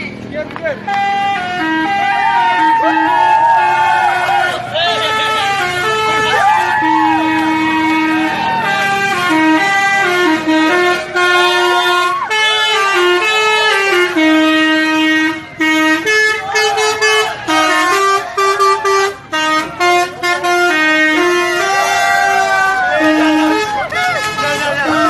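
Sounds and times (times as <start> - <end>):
musical air horn playing a tune: 0.9 - 25.0.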